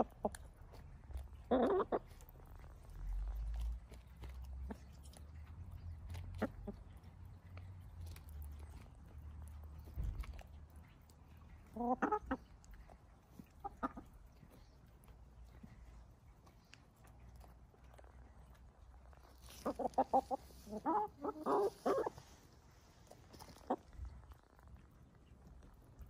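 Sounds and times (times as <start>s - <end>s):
hens clucking: 0.0s - 7.6s, 8.3s - 18.2s, 18.8s - 26.0s.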